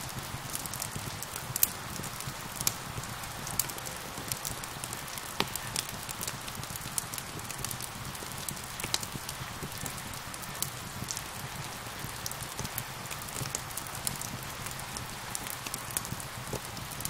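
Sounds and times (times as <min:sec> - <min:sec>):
rain hissing: 0:00.0 - 0:17.0
wood fire crackling: 0:00.0 - 0:17.0.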